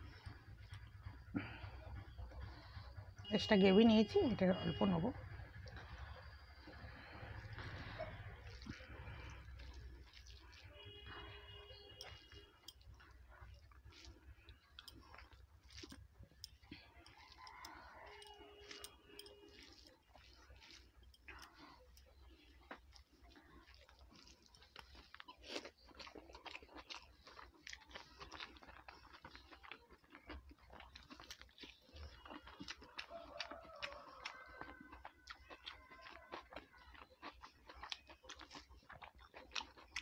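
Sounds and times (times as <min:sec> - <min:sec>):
rice squishing mixed by hand: 0:00.0 - 0:40.0
soft chewing: 0:00.0 - 0:40.0.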